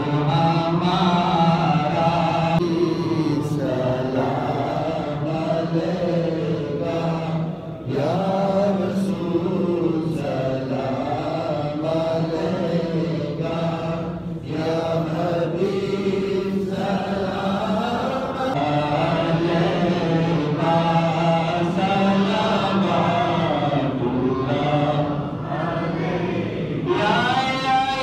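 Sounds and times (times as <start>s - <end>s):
man chanting recitation: 0.0s - 28.0s.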